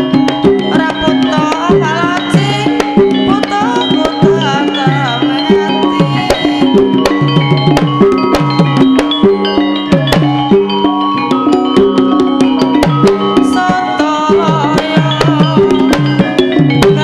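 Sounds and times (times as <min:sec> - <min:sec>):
gamelan music: 0:00.0 - 0:17.0
hand drum strokes: 0:00.0 - 0:17.0
ringing metallophone notes: 0:00.0 - 0:17.0
wavering melody line: 0:00.0 - 0:17.0.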